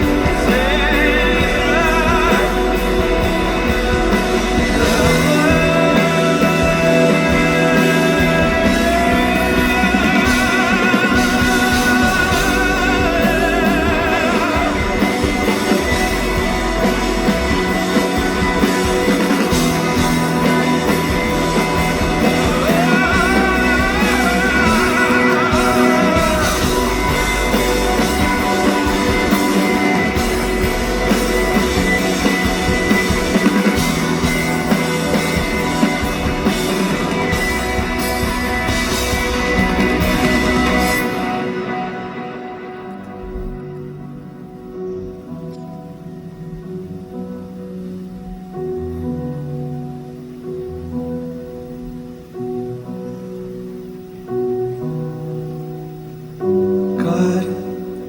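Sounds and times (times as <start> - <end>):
melody with wide vibrato: 0.0 - 47.1
live band with guitar: 0.0 - 58.0.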